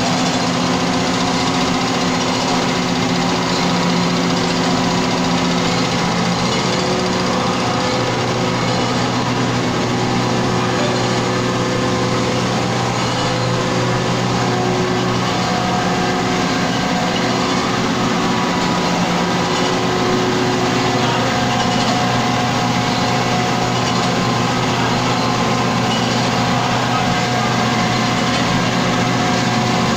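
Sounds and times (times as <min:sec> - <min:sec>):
grinding machine humming: 0:00.0 - 0:29.9.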